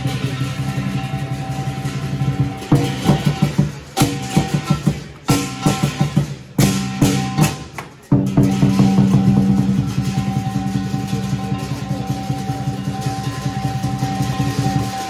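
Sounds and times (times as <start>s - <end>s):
big drum beating fast rhythm: 0.0s - 15.0s
cymbals clashing: 0.0s - 15.0s
gong: 0.0s - 15.0s.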